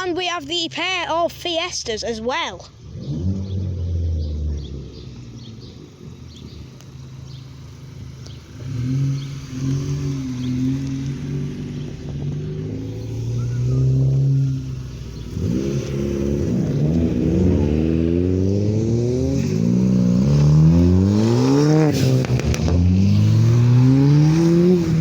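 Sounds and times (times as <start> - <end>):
car engine accelerating: 2.7 - 25.0.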